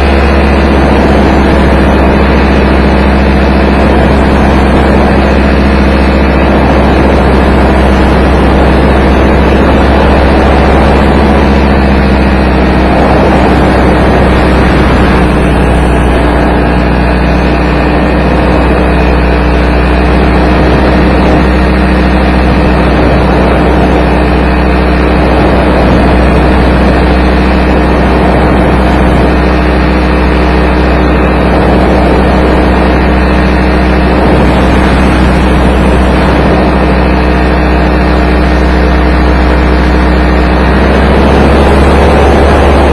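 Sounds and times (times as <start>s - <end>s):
paramotor engine running: 0.0s - 42.9s.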